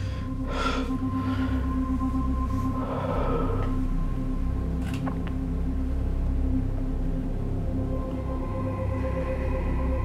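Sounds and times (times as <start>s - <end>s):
dark tense score music: 0.0s - 10.0s.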